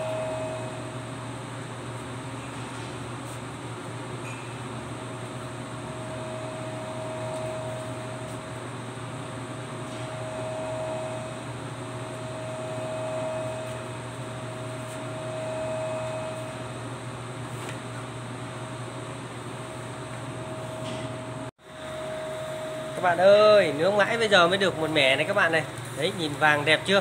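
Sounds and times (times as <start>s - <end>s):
machine humming with whining tone: 0.0s - 27.0s.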